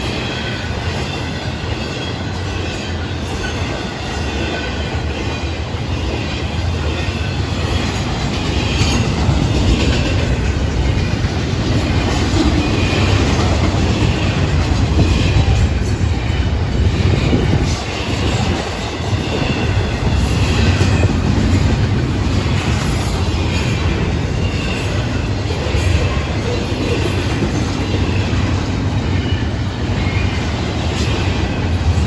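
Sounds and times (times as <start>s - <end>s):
clickety-clack over rail joints: 0.0s - 32.0s
train wheels rumbling on rail: 0.0s - 32.0s.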